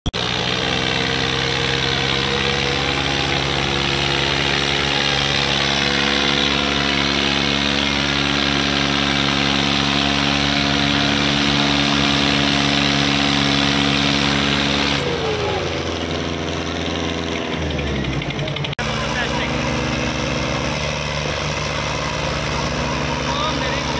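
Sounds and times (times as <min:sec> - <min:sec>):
diesel tractor engines under load: 0:00.0 - 0:23.9.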